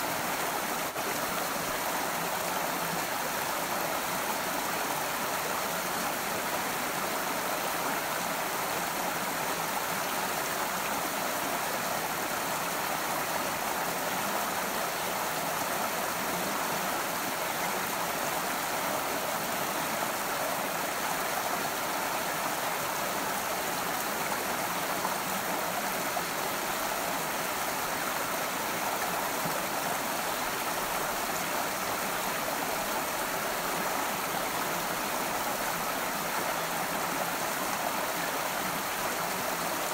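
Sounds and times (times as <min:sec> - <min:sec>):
creek flowing over stones: 0:00.0 - 0:39.9.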